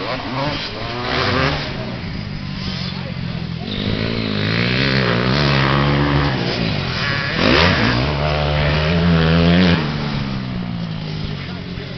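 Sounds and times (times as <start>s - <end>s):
motocross bike engines revving: 0.0s - 11.9s.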